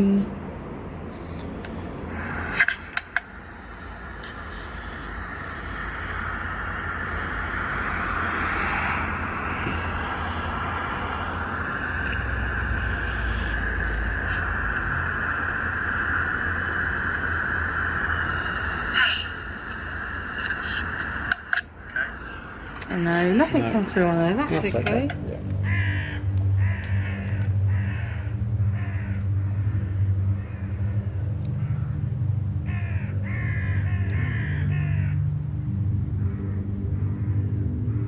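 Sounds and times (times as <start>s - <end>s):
hiss and low rumble: 0.0s - 38.0s.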